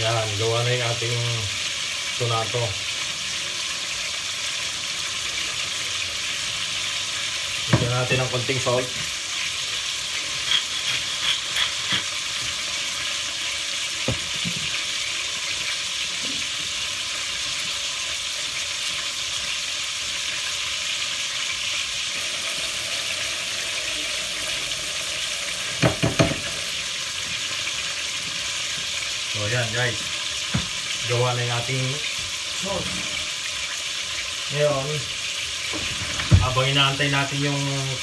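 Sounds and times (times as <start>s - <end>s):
meat sizzling in oil: 0.0s - 38.0s.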